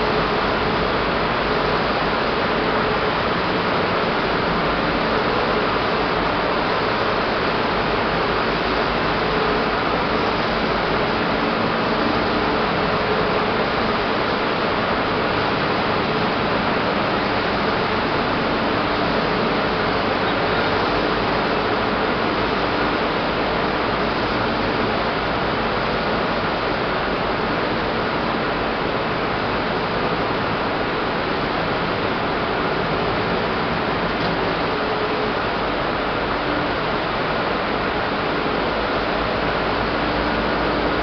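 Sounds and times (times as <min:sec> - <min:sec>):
faint steady hum: 0:00.0 - 0:41.0
rushing noise of fans and blowers: 0:00.0 - 0:41.0.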